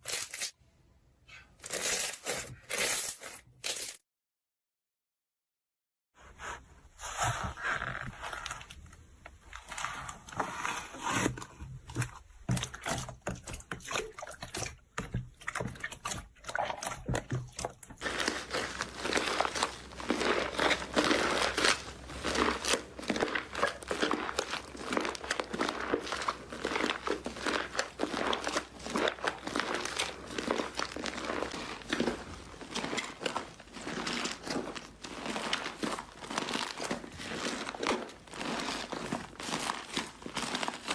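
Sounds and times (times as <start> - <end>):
slime squishing: 6.6 - 40.9.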